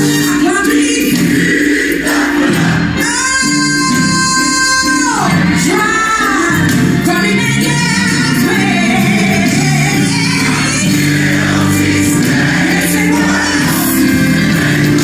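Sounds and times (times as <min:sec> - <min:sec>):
bass line: 0:00.0 - 0:15.0
keyboard: 0:00.0 - 0:15.0
person singing gospel: 0:00.0 - 0:15.0.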